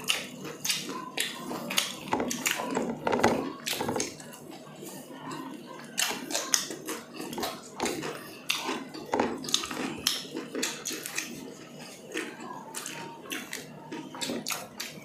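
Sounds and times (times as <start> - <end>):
chewing and lip smacks: 0.0 - 2.8, 5.3 - 15.0
fingers picking at food on plates: 0.0 - 15.0.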